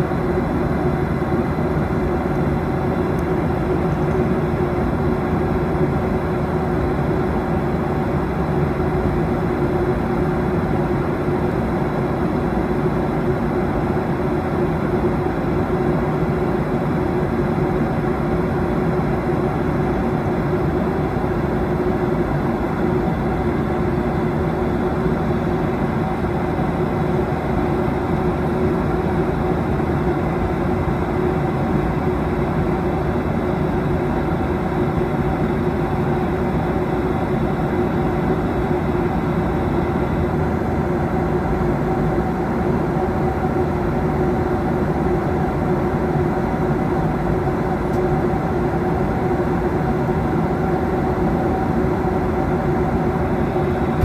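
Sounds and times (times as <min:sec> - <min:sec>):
aircraft cabin jet engine noise: 0:00.0 - 0:54.0.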